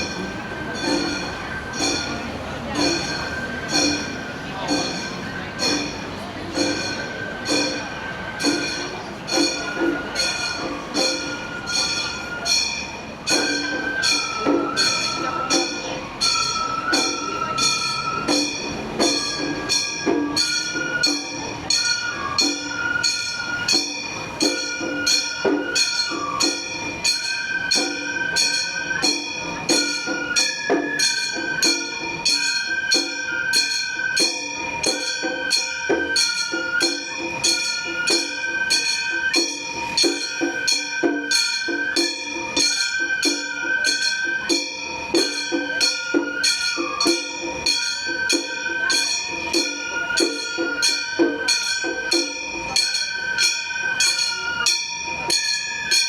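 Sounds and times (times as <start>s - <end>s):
drum beats: 0.0s - 56.0s
high bamboo flute melody: 0.0s - 56.0s.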